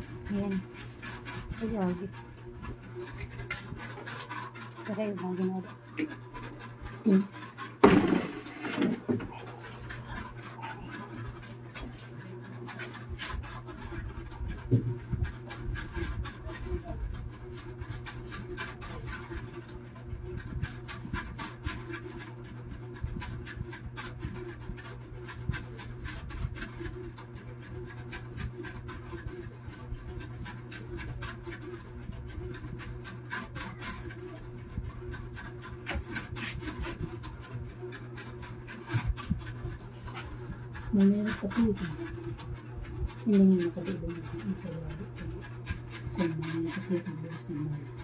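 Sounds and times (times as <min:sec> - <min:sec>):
hands rubbing cable: 0:00.0 - 0:48.0
low steady hum: 0:00.0 - 0:48.0.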